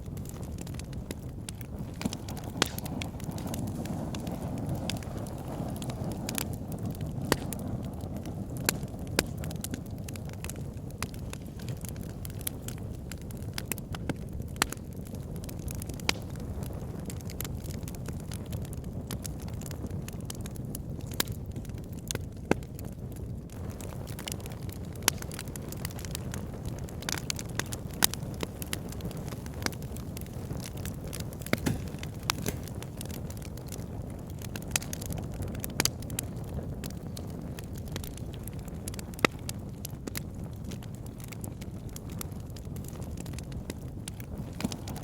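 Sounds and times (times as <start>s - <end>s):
low rumble of flames: 0.0s - 45.0s
sharp pops from burning logs: 0.0s - 45.0s
wood fire crackling: 0.0s - 45.0s.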